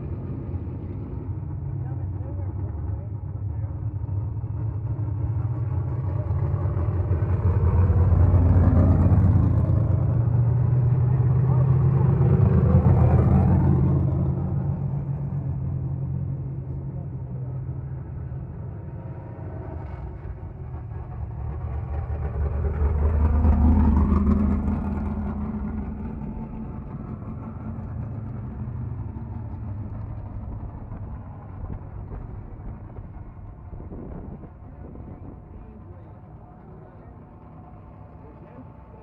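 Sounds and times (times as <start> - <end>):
race car engines: 0.0 - 39.0.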